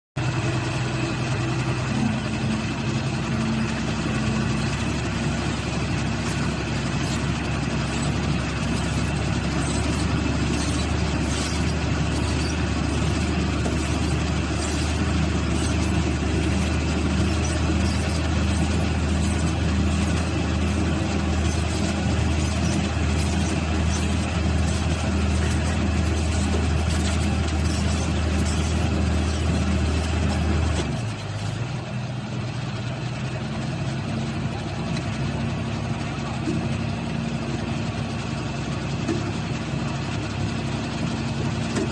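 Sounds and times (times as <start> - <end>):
machine engine droning: 0.2 - 41.9.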